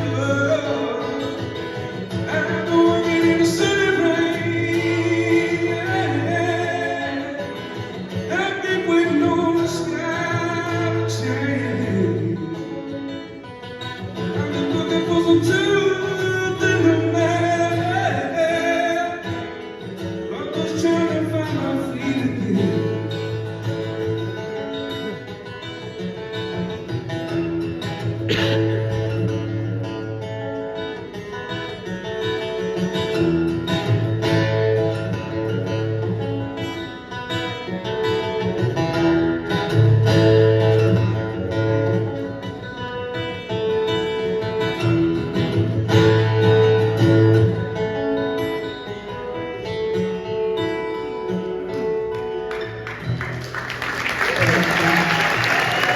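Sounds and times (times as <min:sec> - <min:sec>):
strummed acoustic guitar: 0:00.0 - 0:55.9.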